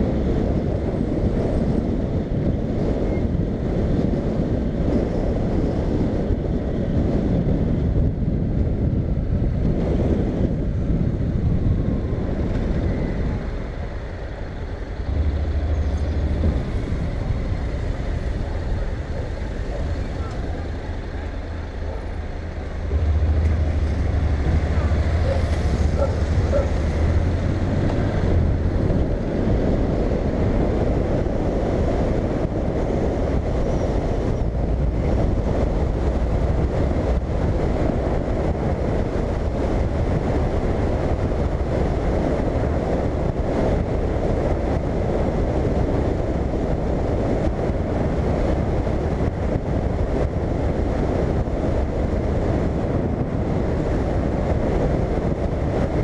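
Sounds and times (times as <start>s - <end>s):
scooter engine drone: 0.0s - 56.0s
tyres on road: 0.0s - 56.0s
wind rushing over microphone: 0.0s - 56.0s.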